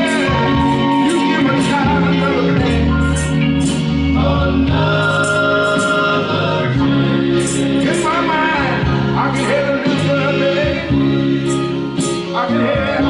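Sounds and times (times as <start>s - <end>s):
band with bass: 0.0s - 13.0s
voices singing gospel: 0.0s - 13.0s.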